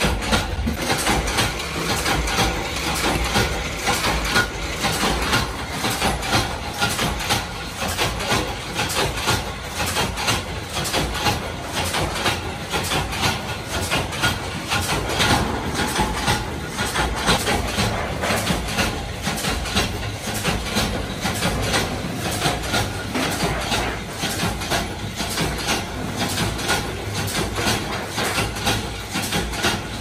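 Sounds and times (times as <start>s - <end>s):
workshop machinery humming: 0.0s - 30.0s.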